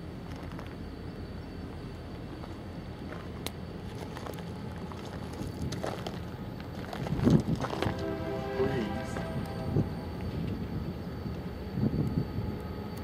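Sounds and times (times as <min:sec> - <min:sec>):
diesel locomotive drone: 0:00.0 - 0:13.0.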